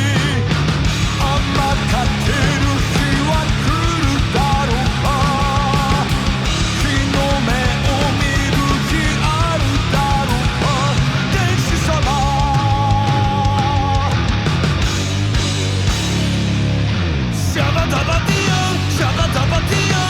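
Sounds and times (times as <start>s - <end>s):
heavy rock band music: 0.0s - 20.0s.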